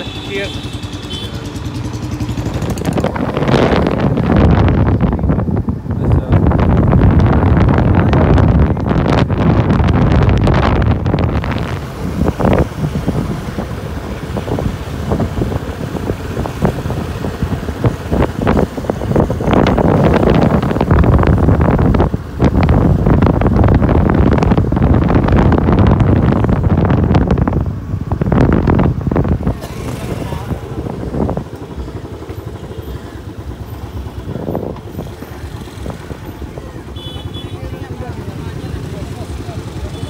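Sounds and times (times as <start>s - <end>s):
motorcycle engine: 0.0s - 40.0s
road noise: 0.0s - 40.0s
wind buffeting microphone: 1.4s - 36.9s.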